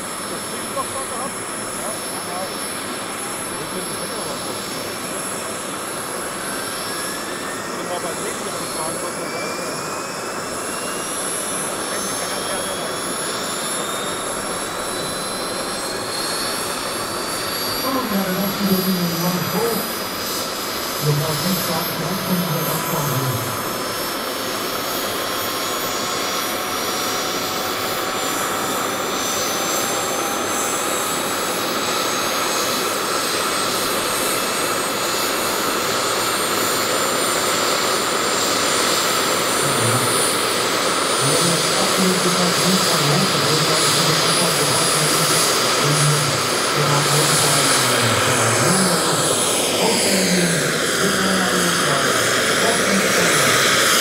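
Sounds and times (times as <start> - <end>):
model helicopter turbine whine: 0.0 - 54.0.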